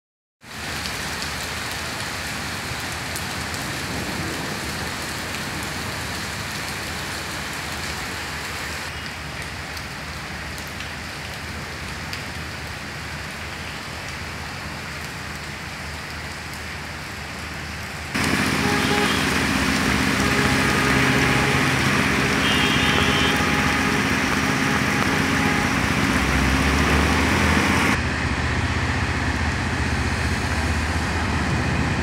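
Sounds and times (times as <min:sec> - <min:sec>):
rain falling on pavement: 0:00.4 - 0:32.0.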